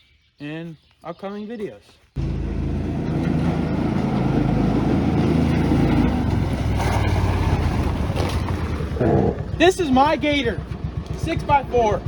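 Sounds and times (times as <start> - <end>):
utility vehicle engine running: 2.2 - 12.0.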